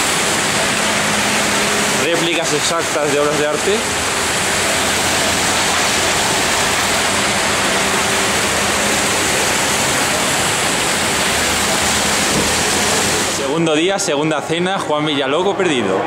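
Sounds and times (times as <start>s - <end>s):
fountain water splashing: 0.0s - 14.4s.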